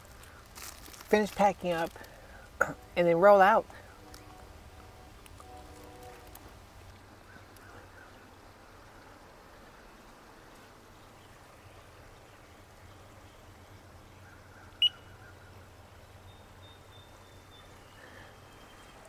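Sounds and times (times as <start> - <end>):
faint background noise: 0.0 - 19.0.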